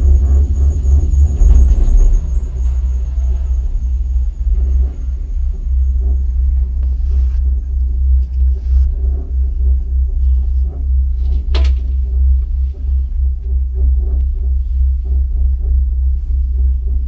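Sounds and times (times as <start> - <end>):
gondola cabin rumbling on cable: 0.0 - 17.0.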